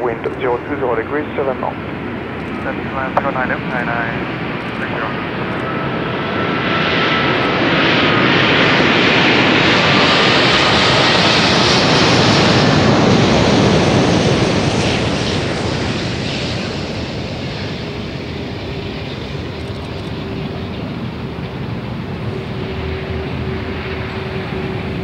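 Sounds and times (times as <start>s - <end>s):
faint engine whine: 0.0s - 9.2s, 10.8s - 25.0s
jet engine roar: 0.0s - 25.0s.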